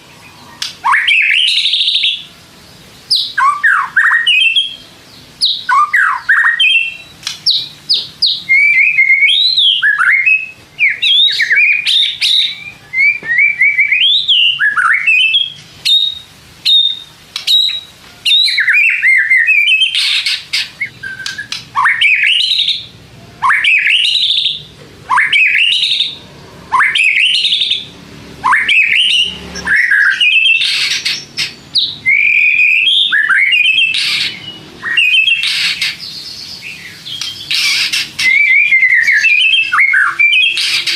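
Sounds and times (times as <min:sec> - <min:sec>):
bird singing whistles and trills: 0:00.0 - 0:02.3, 0:03.1 - 0:40.9
bird harsh rasping notes: 0:00.0 - 0:40.9.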